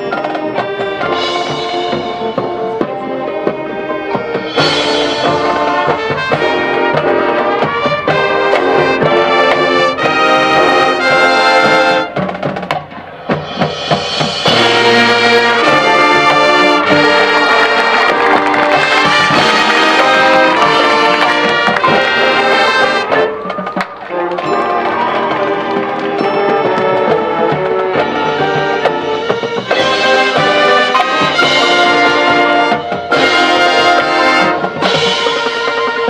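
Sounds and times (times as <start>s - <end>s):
brass chords and runs: 0.0s - 36.0s
marching band percussion: 0.0s - 36.0s.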